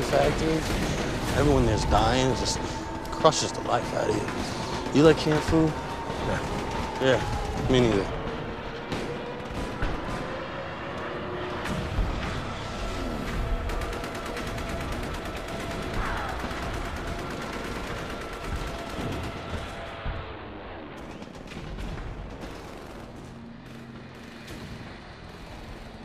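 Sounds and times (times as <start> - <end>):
distant machine-gun and rifle fire: 0.0 - 26.0.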